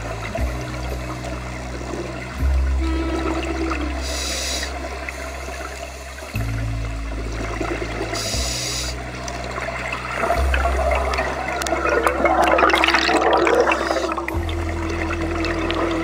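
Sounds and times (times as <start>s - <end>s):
underwater air bubbling: 0.0s - 16.0s.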